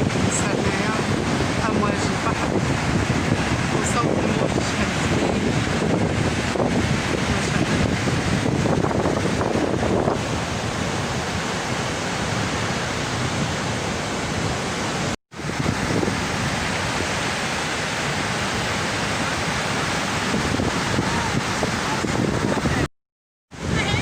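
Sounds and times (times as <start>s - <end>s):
sea waves washing onto beach: 0.0s - 22.9s, 23.6s - 24.0s
wind buffeting microphone: 0.0s - 22.9s, 23.5s - 24.0s.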